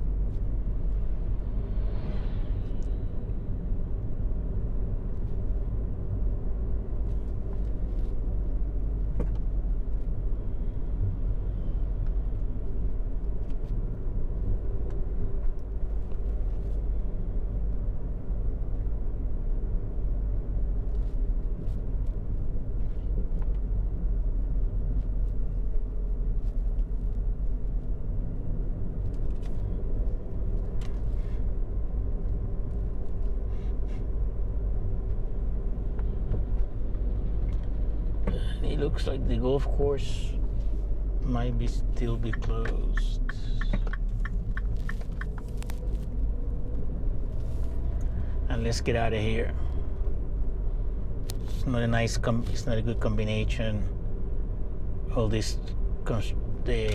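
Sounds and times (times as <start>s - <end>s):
car driving rumble: 0.0s - 56.9s.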